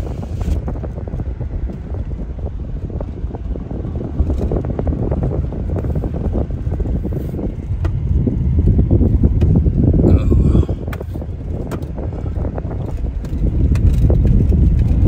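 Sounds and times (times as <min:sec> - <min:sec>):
tyres rumbling on dirt road: 0:00.0 - 0:15.0
car knocks and rattles: 0:00.3 - 0:15.0.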